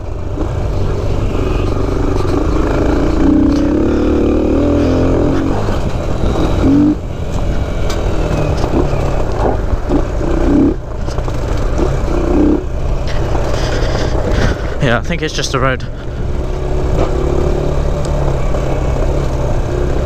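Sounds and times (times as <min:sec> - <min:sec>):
engine throttle blips: 0:00.0 - 0:20.0
motorcycle engine running: 0:00.0 - 0:20.0.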